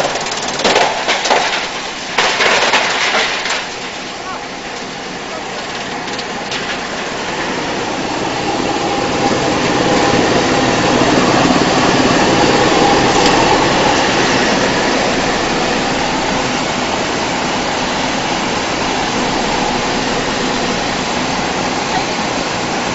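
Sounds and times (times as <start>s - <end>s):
wood chipper chipping wood: 0.0s - 22.9s.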